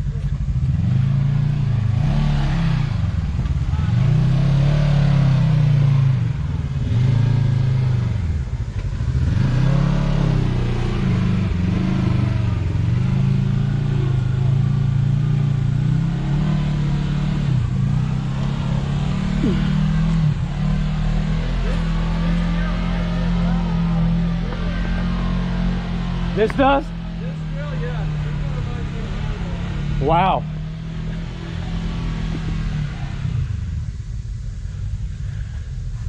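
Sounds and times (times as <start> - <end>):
engine revving under load: 0.0 - 36.0.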